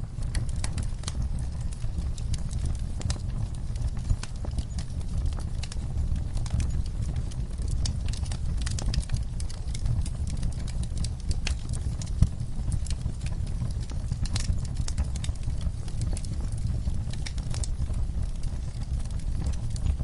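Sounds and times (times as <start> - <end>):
wood fire crackling: 0.0 - 20.0
sharp pops of fire: 0.1 - 20.0.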